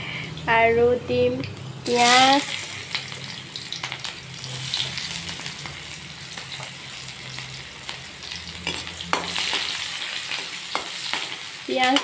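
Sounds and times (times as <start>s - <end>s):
onions sizzling in oil: 0.1s - 12.0s.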